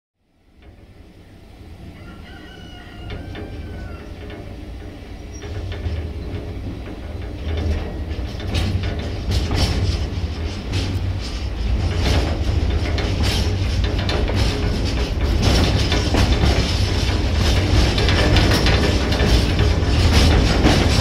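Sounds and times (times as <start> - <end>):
diesel locomotive rumble: 0.3 - 21.0.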